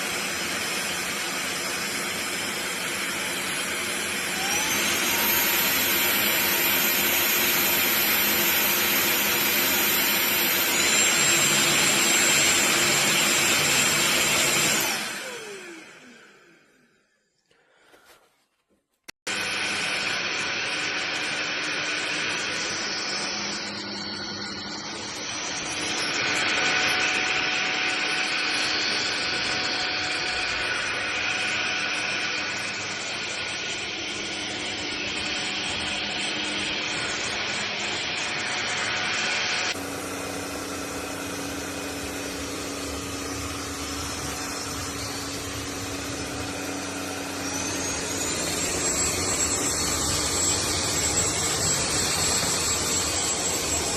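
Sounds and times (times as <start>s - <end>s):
stick vacuum cleaner running: 0.0s - 18.3s, 19.3s - 53.9s.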